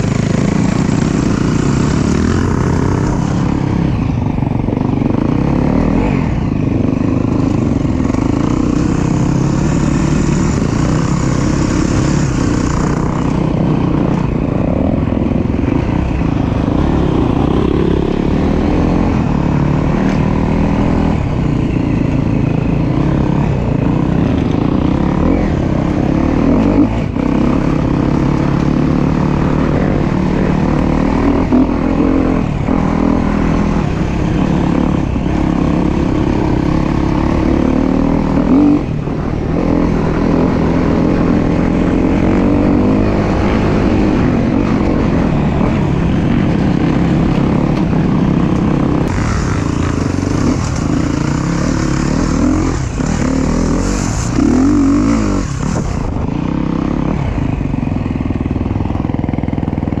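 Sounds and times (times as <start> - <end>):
dirt bike engine revving: 0.0 - 57.7.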